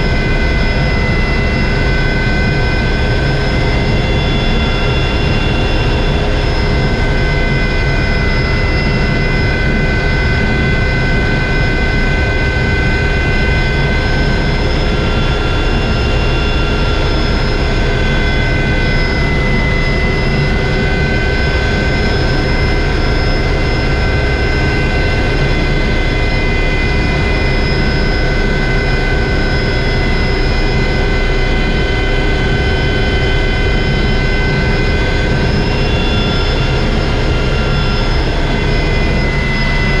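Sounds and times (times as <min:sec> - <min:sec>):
helicopter rotor rumble: 0:00.0 - 0:40.0
helicopter turbine whine: 0:00.0 - 0:40.0.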